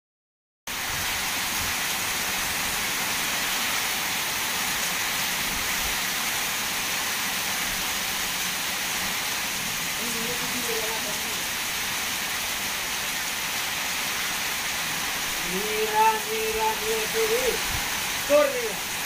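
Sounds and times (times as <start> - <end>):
heavy rain on a field: 0.7 - 19.0.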